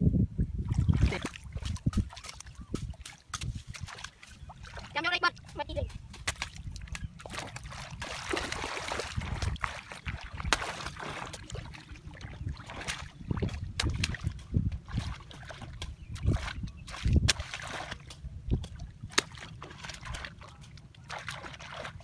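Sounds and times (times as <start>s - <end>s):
muddy water splashing: 0.6s - 22.0s.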